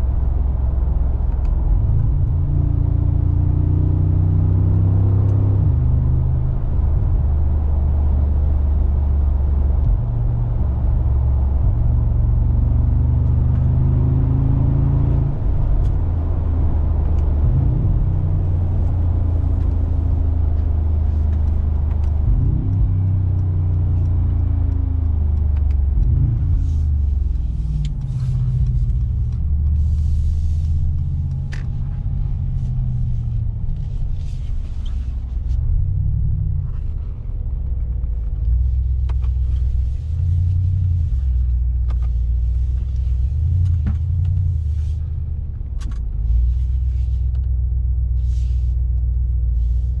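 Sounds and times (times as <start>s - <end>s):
car engine deep rumble: 0.0s - 50.0s.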